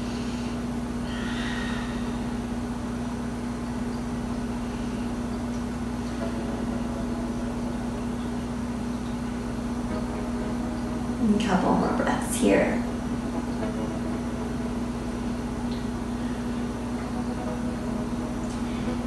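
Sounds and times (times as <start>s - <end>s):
low electrical hum: 0.0s - 19.0s
room noise hiss: 0.0s - 19.0s.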